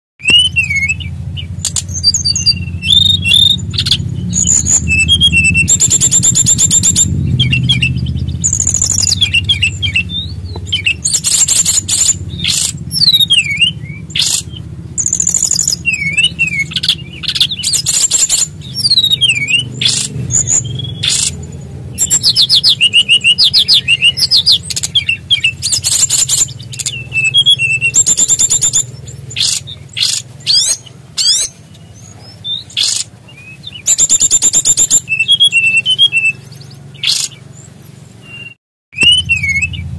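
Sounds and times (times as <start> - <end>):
songbird singing trills: 0.2 - 39.9
steady low hum: 0.3 - 38.4.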